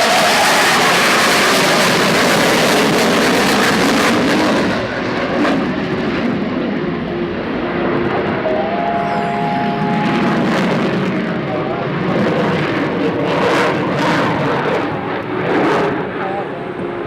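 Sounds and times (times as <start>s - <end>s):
fighter jet flying past: 0.0s - 17.0s.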